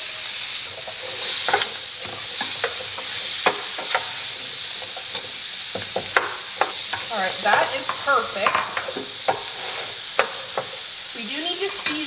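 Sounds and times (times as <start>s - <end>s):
garlic and onion sizzling: 0.0s - 12.0s
utensil scraping a pan: 0.6s - 10.9s.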